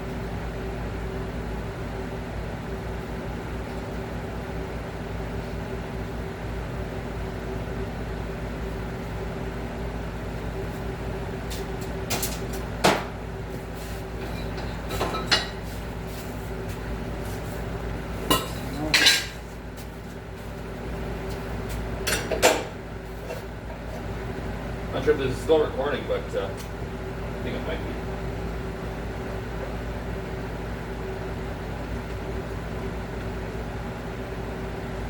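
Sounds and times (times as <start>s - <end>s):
machine or fan humming: 0.0s - 35.0s.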